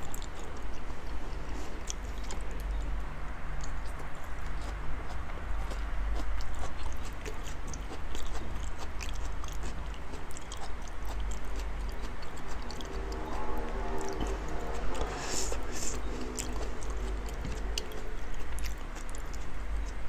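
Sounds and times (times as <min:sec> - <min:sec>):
man chewing: 0:03.6 - 0:20.0.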